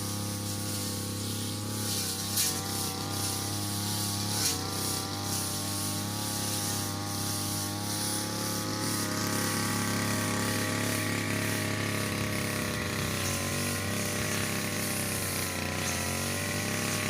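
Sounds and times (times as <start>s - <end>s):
blade hissing through grass: 0.0s - 17.0s
brush cutter engine running: 0.0s - 17.0s.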